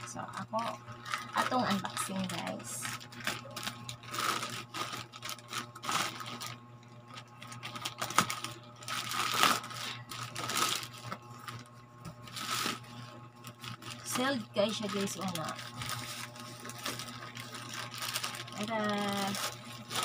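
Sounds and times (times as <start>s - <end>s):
steady low hum: 0.0s - 20.0s
plastic pouch crinkling: 1.0s - 20.0s.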